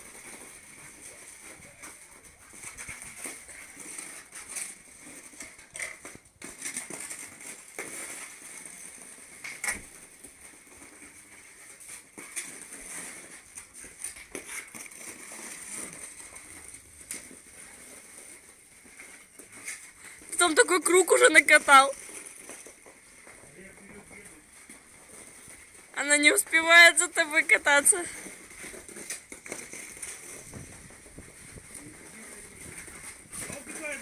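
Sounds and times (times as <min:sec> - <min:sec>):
ice skate blades scraping on ice: 0:00.0 - 0:34.0.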